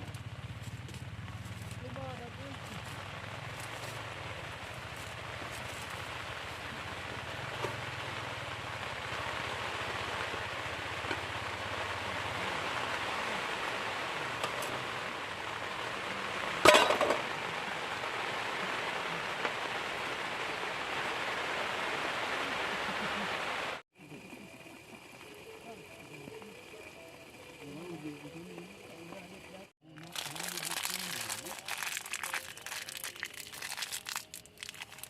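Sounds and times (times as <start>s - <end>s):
rain falling: 0.0s - 24.4s, 30.0s - 35.0s.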